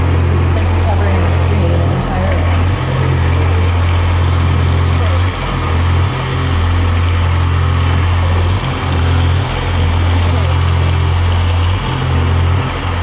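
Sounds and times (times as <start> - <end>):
hazy synth wash: 0.0 - 13.0
low electronic drone: 0.0 - 13.0.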